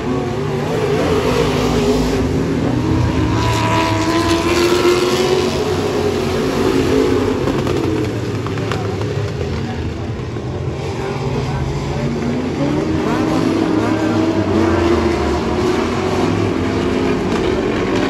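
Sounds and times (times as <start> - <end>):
stock car engines racing: 0.0 - 18.0.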